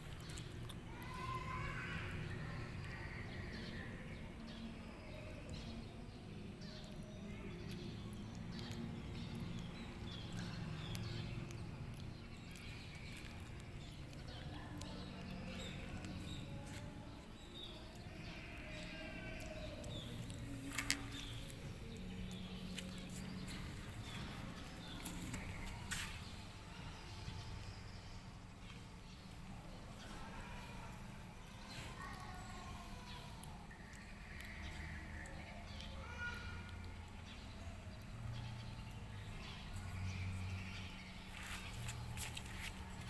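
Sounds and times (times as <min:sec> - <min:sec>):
low steady background noise: 0:00.0 - 0:43.0
small birds chirping: 0:00.0 - 0:43.0.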